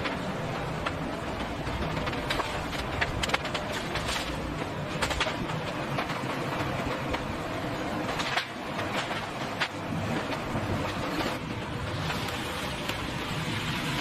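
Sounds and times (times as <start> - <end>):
machinery rumbling: 0.0 - 14.0.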